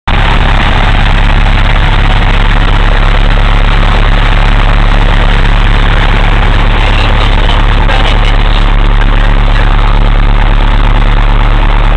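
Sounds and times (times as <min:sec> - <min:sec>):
propeller plane engine from cabin: 0:00.1 - 0:11.9.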